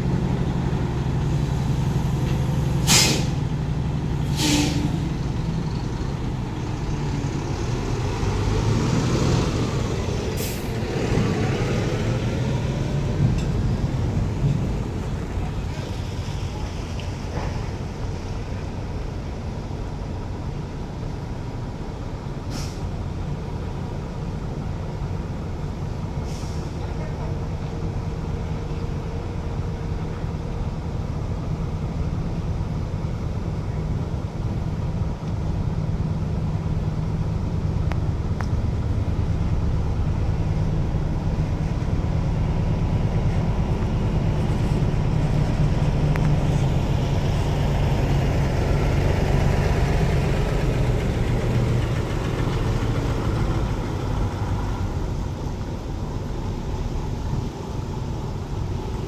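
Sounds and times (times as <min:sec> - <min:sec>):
crane diesel engine running: 0:00.0 - 0:59.0
truck diesel engine approaching: 0:00.0 - 0:59.0.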